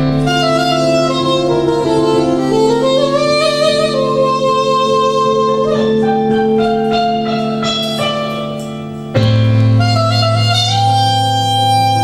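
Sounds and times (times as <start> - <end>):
low accompaniment chord: 0.0 - 12.0
soprano saxophone melody: 0.0 - 12.0.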